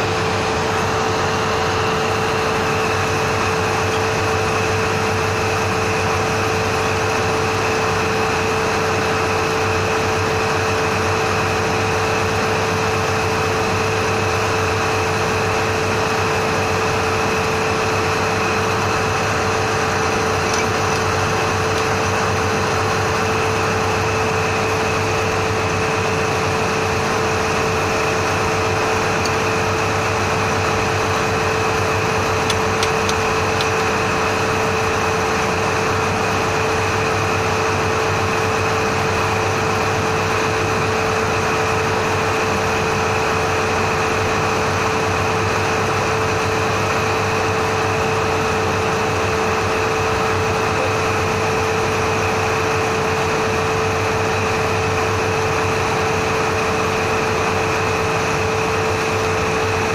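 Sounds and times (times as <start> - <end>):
machinery droning: 0.0 - 59.9.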